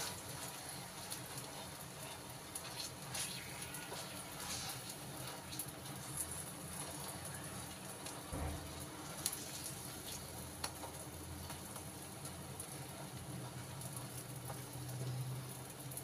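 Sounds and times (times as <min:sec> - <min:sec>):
batter sizzling on a griddle: 0:00.0 - 0:16.0.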